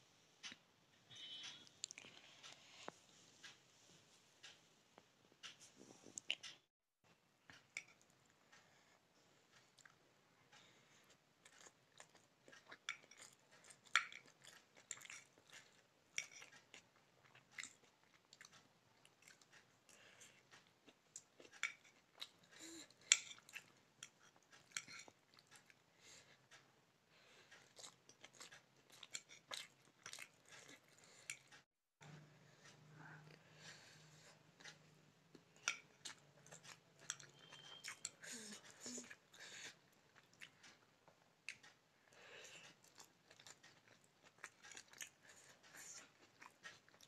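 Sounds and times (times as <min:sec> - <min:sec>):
person chewing noodles: 0:01.4 - 0:02.8, 0:07.5 - 0:26.6, 0:27.2 - 0:31.7, 0:32.4 - 0:47.0.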